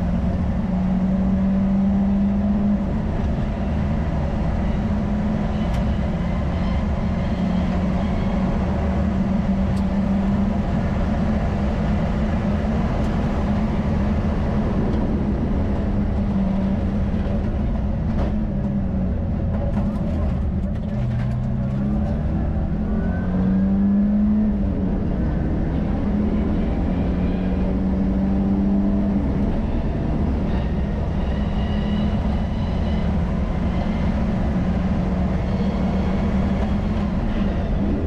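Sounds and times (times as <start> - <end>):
car engine running hard: 0.0 - 38.0
tyre and road noise: 0.0 - 38.0.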